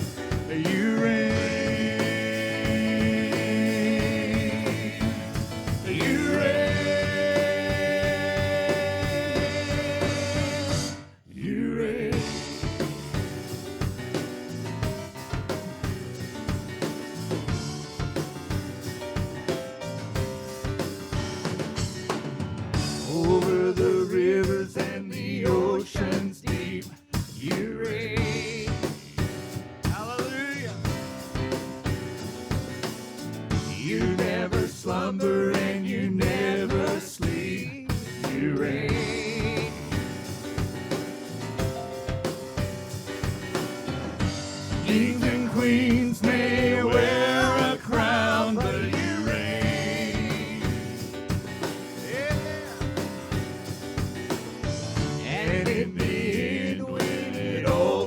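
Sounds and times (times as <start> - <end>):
drum kit beat: 0.0 - 11.1, 12.1 - 58.0
guitar: 0.0 - 11.2, 12.2 - 24.1, 28.2 - 56.2
worship band playing: 0.0 - 58.0.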